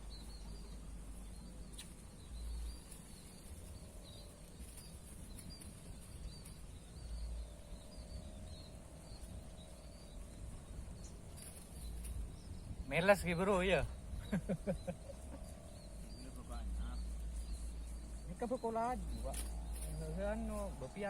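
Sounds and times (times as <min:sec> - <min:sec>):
outdoor background noise: 0:00.0 - 0:21.0
small bird chirping: 0:00.0 - 0:21.0.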